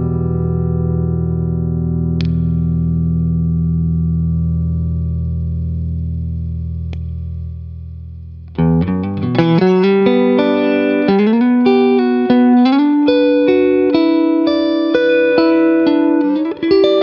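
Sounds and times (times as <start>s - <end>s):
electric guitar chord: 0.0s - 7.4s, 8.5s - 17.0s
electric guitar picked melody: 0.0s - 17.0s.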